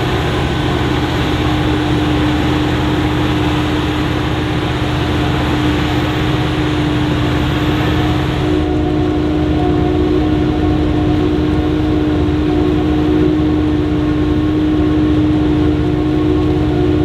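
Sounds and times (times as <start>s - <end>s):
harvester and tractor engines: 0.0s - 17.0s.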